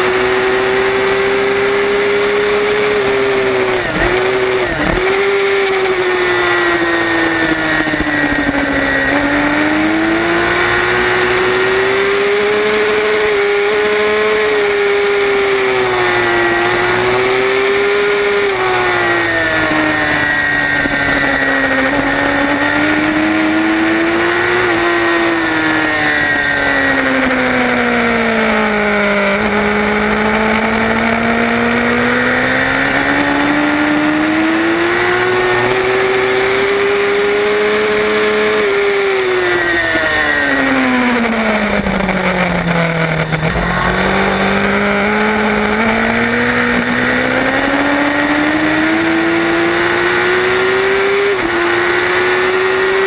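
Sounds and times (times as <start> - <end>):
racing motorcycle engine revving: 0.0 - 53.0.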